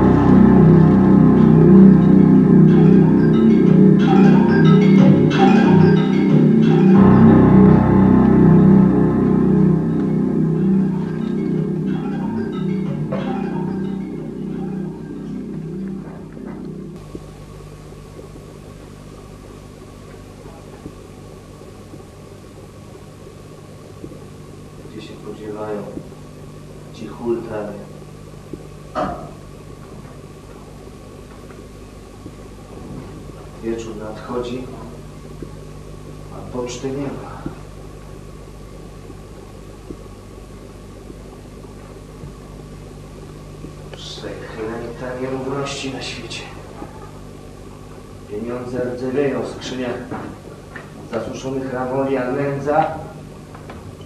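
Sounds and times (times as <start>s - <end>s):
room tone hum and hiss: 0.0s - 54.0s.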